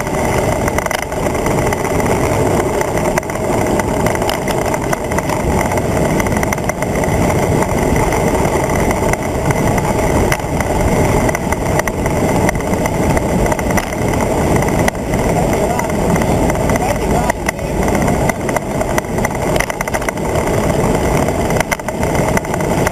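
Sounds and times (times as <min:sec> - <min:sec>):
tyre and road noise: 0:00.0 - 0:22.9
wind rushing over microphone: 0:00.0 - 0:22.9.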